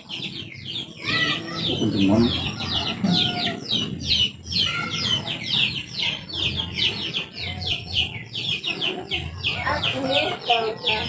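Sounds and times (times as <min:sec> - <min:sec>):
birds chirping: 0:00.0 - 0:11.0
low background murmur: 0:00.0 - 0:11.0.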